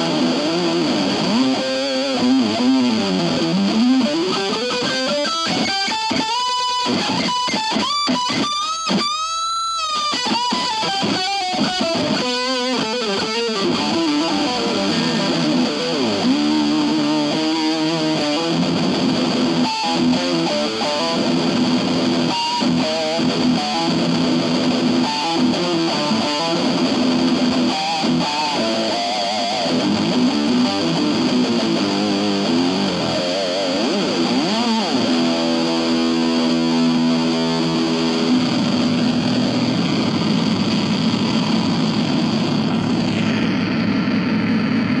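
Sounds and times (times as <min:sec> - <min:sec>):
synth-like guitar tones sweeping: 0:00.0 - 0:45.0
warbling guitar notes: 0:00.0 - 0:45.0.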